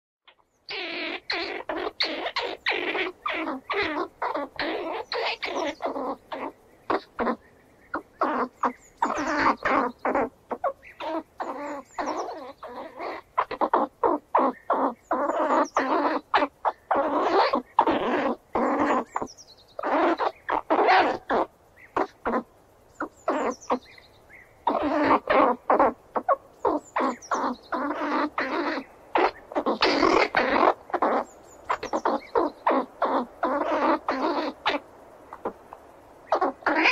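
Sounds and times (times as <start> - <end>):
squirrel chattering: 0.2 - 24.0, 24.6 - 36.9.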